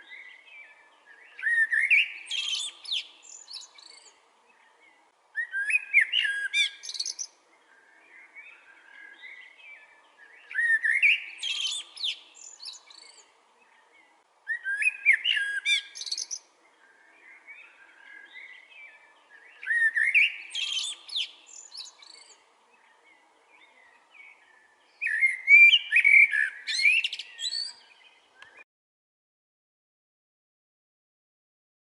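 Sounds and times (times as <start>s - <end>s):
blackbird singing: 0.0s - 28.6s.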